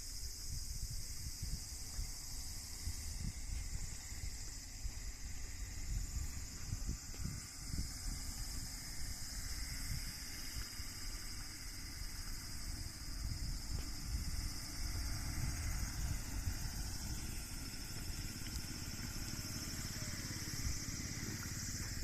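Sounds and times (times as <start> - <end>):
high-pitched insect drone: 0.0 - 22.0
wind buffeting microphone: 0.0 - 22.0.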